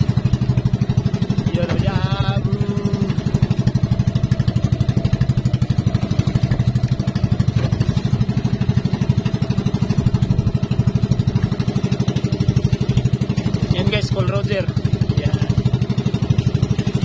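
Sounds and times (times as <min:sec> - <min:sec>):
boat engine pulsing: 0:00.0 - 0:17.0.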